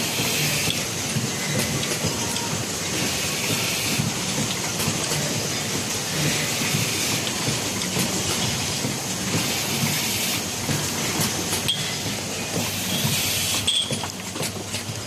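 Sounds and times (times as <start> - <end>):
welding machine hiss: 0.0 - 4.4, 5.1 - 7.8, 8.8 - 13.9.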